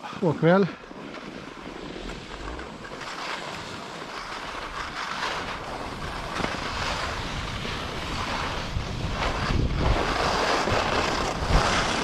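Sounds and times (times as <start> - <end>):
skis hissing over snow: 0.0 - 12.0
wind rushing over microphone: 0.8 - 12.0.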